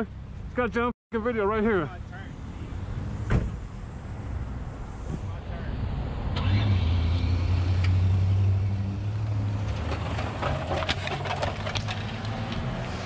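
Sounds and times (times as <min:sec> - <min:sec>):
vehicle engine humming: 0:01.2 - 0:13.0.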